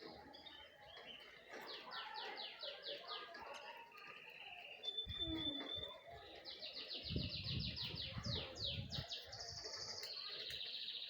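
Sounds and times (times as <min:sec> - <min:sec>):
bird song with high trill: 0:00.0 - 0:11.0.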